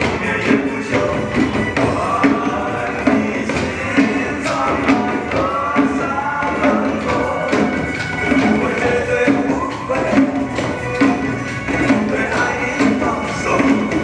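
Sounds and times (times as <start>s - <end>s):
djembe drums: 0.0s - 14.0s
pop song with singing: 0.0s - 14.0s.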